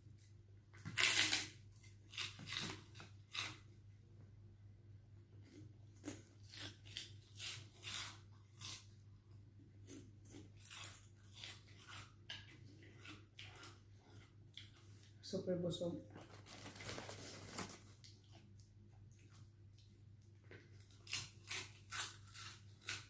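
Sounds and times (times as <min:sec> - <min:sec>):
crunching and chewing: 0:00.0 - 0:03.8, 0:05.4 - 0:15.2, 0:16.2 - 0:23.0.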